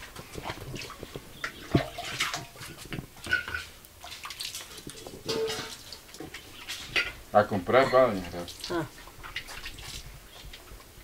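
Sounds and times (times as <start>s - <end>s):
water splashing: 0.0s - 10.8s.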